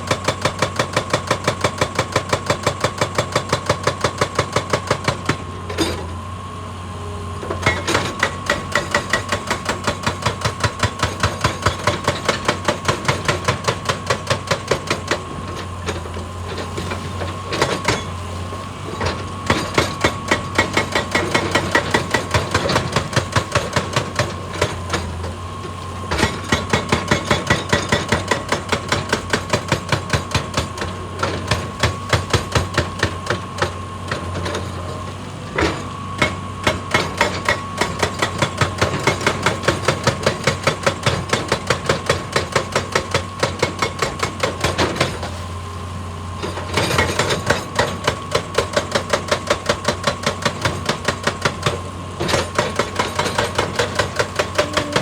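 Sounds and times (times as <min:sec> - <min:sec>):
hydraulic breaker hammering rock: 0:00.0 - 0:06.2, 0:07.4 - 0:45.5, 0:46.3 - 0:55.0
excavator diesel engine drone: 0:00.1 - 0:55.0.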